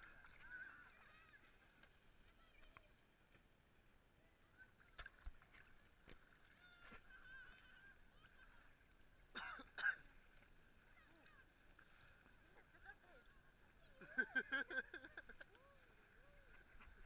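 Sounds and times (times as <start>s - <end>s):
muffled water lapping: 0.0s - 17.0s
water splashes: 0.0s - 17.0s.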